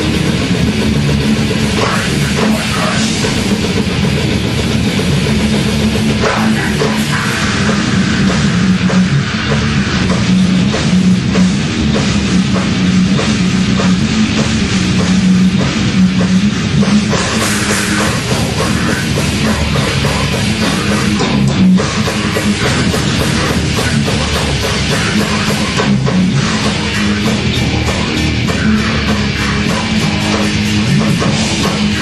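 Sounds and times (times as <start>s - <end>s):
bass guitar: 0.0s - 32.0s
distorted electric guitars: 0.0s - 32.0s
fast drumming on a drum kit: 0.0s - 32.0s.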